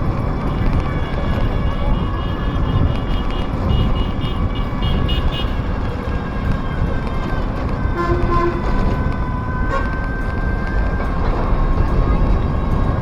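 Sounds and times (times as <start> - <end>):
vehicle rumbling in motion: 0.0 - 13.0.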